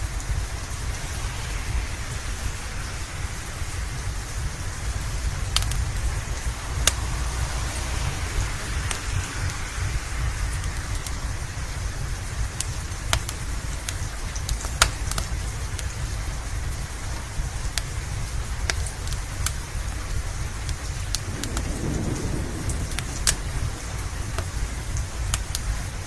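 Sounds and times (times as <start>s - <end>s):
steady rain falling: 0.0s - 26.0s
wood fire crackling: 0.0s - 26.0s.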